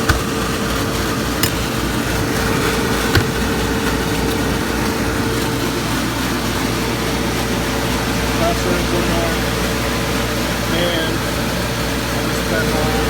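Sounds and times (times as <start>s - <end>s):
fan and compressor humming: 0.0s - 13.0s.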